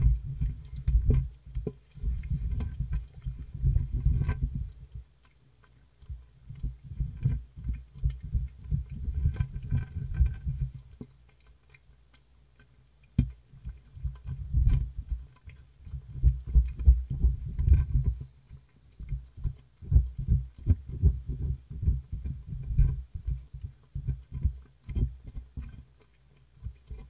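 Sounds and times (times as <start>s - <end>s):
cats lapping and chewing food: 0.0s - 27.0s.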